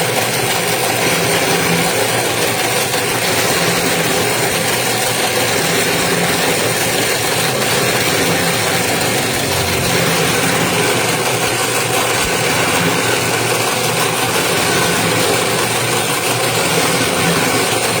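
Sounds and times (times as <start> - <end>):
winding machine motor humming: 0.0 - 18.0.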